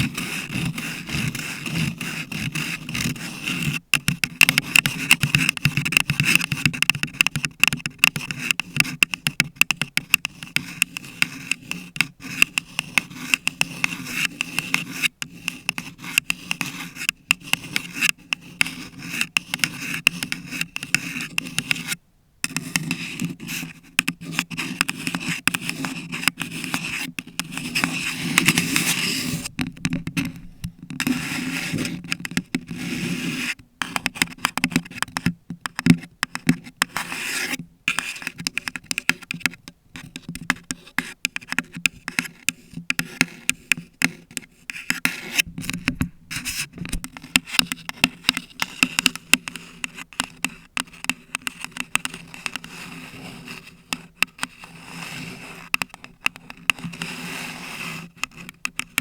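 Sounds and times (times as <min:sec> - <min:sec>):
nails scratching microphone: 0:00.0 - 0:59.0
nails scratching paper cup: 0:00.0 - 0:59.0.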